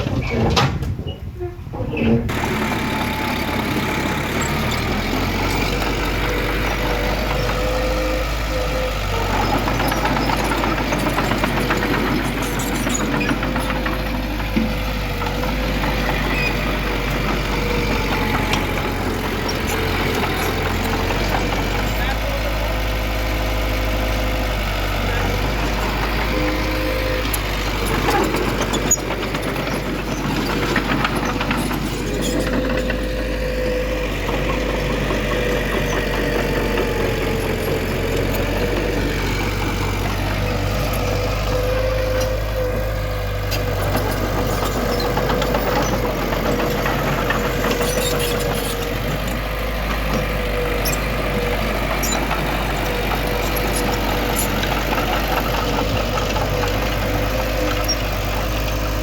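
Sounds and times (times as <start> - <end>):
diesel earthmover engine running: 0.0 - 59.0.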